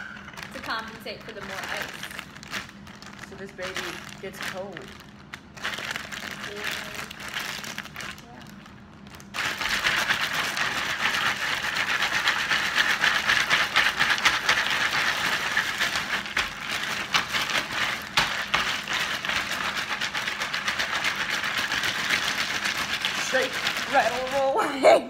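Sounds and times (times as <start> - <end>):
ice and salt rattling in plastic bag: 0.0 - 24.7
plastic crinkling: 0.0 - 24.7.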